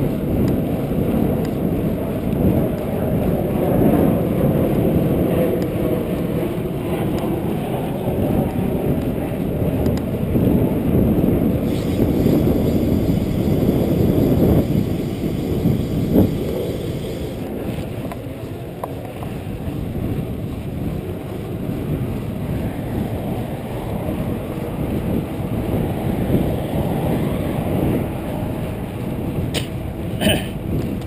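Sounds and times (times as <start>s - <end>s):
bike tyres rumbling on pavement: 0.0s - 31.0s
wind on microphone: 0.0s - 31.0s.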